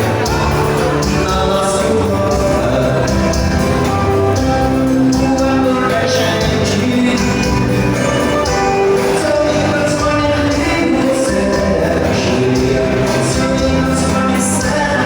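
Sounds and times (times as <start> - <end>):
live dance band with singing: 0.0 - 15.0.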